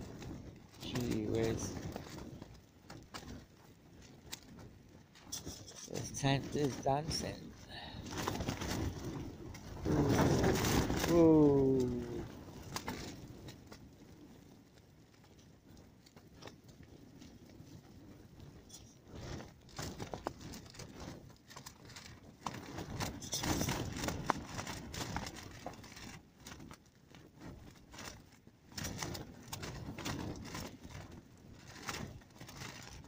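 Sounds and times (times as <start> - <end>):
tent fabric flapping in wind: 0.0 - 33.0.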